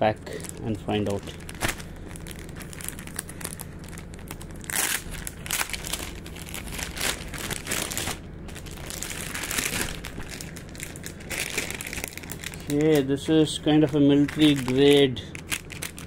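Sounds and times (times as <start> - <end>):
plastic bags crinkling: 0.2 - 16.0.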